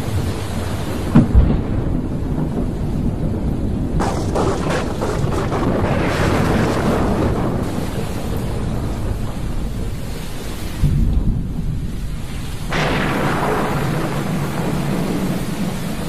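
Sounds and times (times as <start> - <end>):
heavy rain: 0.0 - 16.0
thunder rumbling: 0.0 - 16.0
sharp thunder crack: 1.0 - 16.0.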